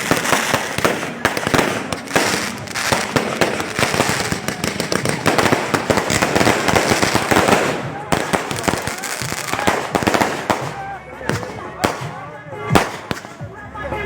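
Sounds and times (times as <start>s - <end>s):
fireworks banging and crackling: 0.0s - 13.5s.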